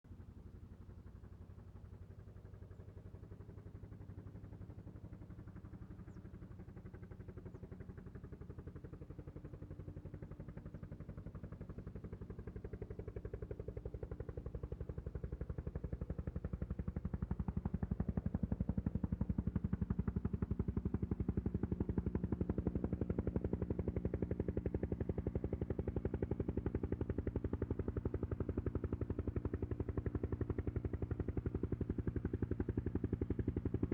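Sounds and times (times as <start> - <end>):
helicopter engine hum: 0.1 - 33.9
helicopter rotor chop: 0.8 - 33.9.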